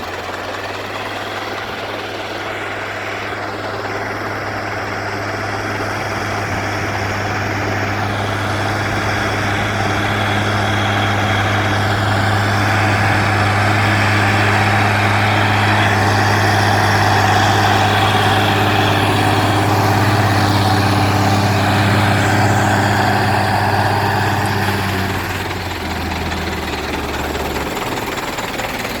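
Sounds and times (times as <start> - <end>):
steady rushing noise: 0.0 - 29.0
tractor diesel engine running: 0.0 - 29.0.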